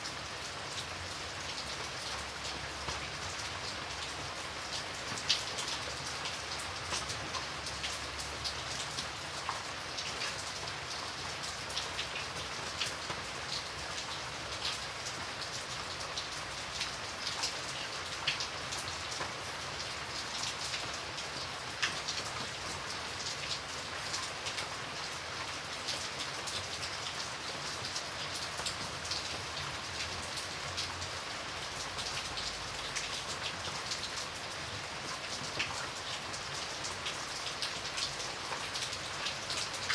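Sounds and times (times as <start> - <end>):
light rain hiss: 0.0 - 39.9.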